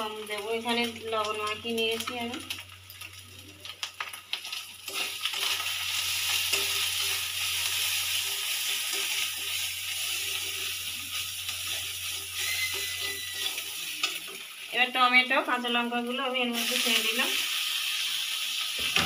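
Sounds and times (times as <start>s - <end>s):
masala sizzling in hot oil: 0.0s - 19.0s.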